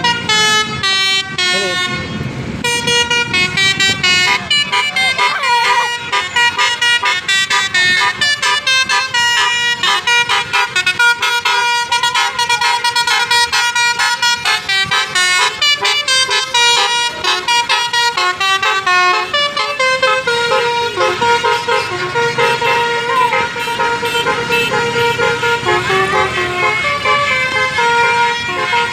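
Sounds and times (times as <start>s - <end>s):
multi-tone bus horn melody: 0.0s - 28.9s.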